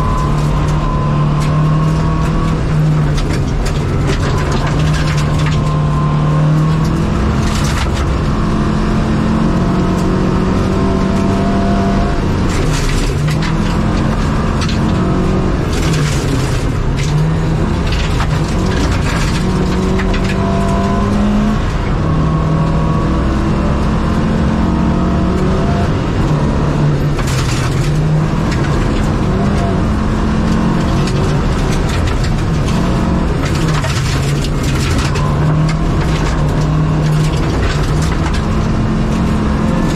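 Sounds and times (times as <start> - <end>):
gravel striking car body: 0.0 - 8.6, 12.0 - 22.1, 26.2 - 39.9
rally car engine revving: 0.0 - 39.9.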